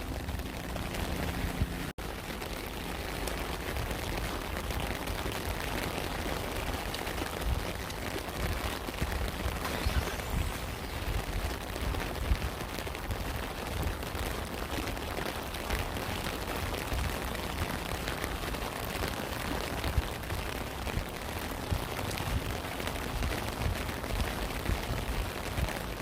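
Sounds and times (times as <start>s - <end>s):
raindrops ticking and thudding: 0.0s - 26.0s
steady rain hiss: 0.0s - 26.0s.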